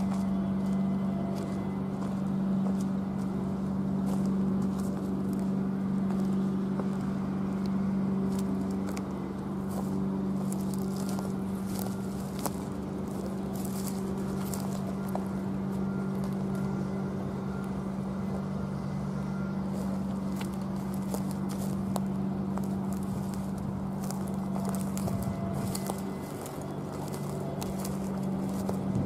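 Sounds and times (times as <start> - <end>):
footsteps crunching on gravel: 0.0 - 29.0
steady low hum: 0.0 - 29.0.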